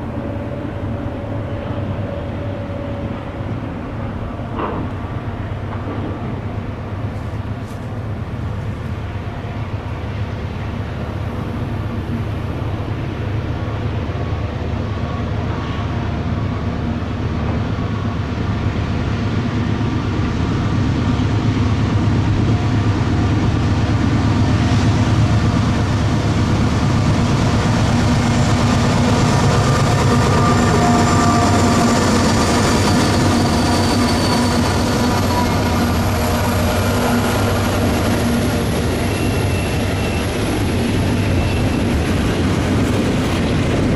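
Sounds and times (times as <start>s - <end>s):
freight train rumbling past: 0.0s - 43.9s.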